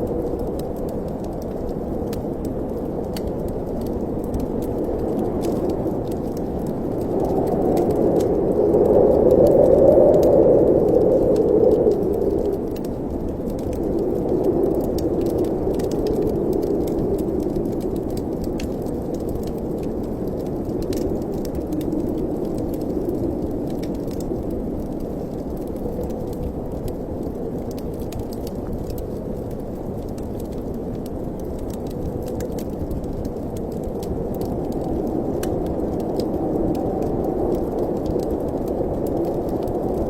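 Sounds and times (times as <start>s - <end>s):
faint crackling ticks: 0.0s - 40.0s
wind rushing through chimney: 0.0s - 40.0s.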